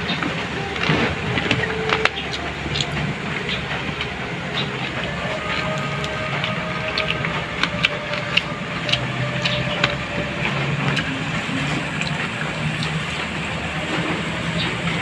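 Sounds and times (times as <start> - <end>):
wet mouth clicks and chewing: 0.0 - 15.0.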